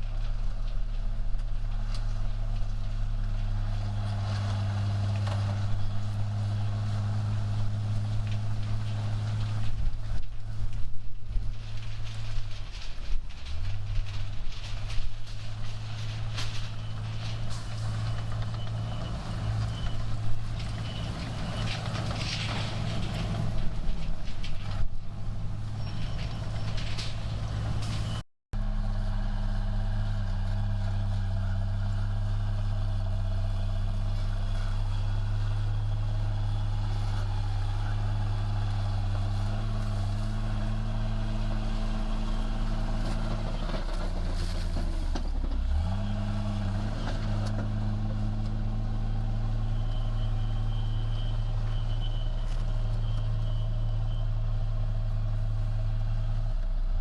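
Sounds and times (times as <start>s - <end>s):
heavy diesel machine engine running: 0.0s - 57.0s.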